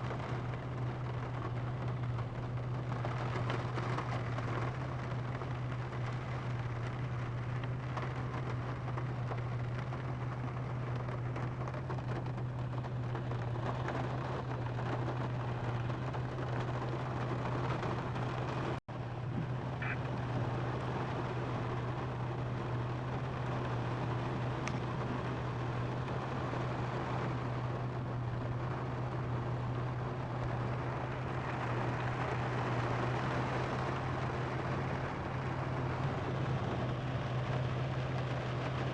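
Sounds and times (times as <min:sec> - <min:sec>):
car low hum: 0:00.0 - 0:38.9
rain falling on a car: 0:00.0 - 0:38.9.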